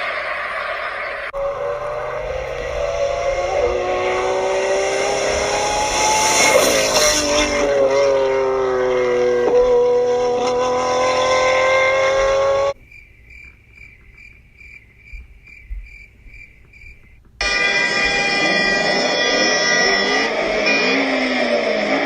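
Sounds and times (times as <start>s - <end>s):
car engine running: 0.3s - 12.8s, 16.4s - 22.0s.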